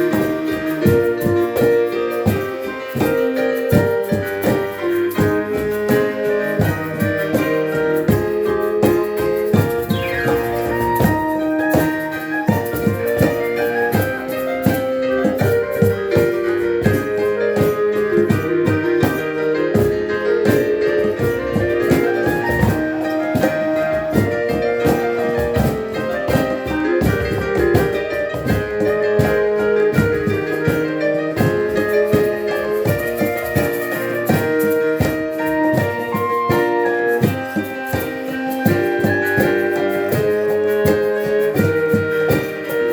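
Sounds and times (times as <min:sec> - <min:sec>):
hand drum beat: 0:00.0 - 0:42.9
percussion strikes: 0:00.0 - 0:42.9
street piano: 0:00.0 - 0:42.9
wind instruments holding notes: 0:00.0 - 0:42.9.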